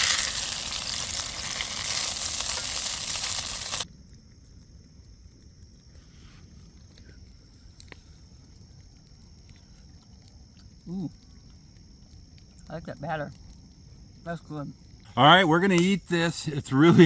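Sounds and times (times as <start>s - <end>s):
fish frying in hot oil: 0.0s - 6.0s, 6.8s - 15.1s.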